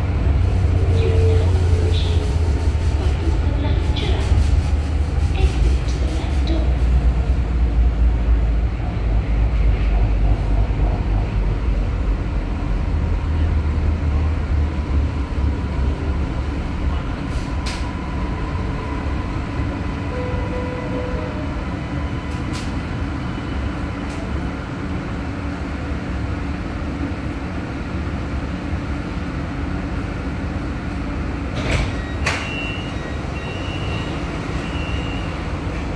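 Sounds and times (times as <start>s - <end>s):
train rumbling: 0.0s - 35.9s.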